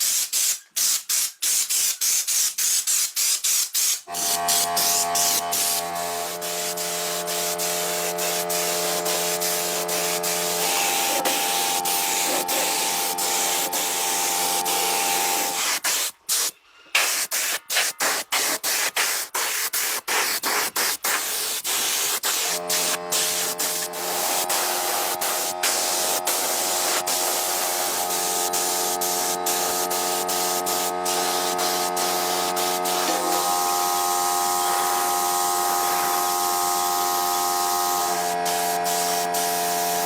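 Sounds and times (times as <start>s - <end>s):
spraying hiss: 0.0s - 40.0s.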